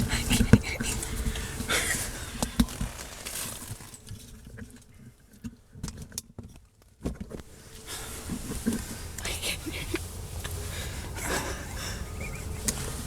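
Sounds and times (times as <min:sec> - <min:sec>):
clothing and gear rustling: 0:00.2 - 0:05.1, 0:07.2 - 0:13.0.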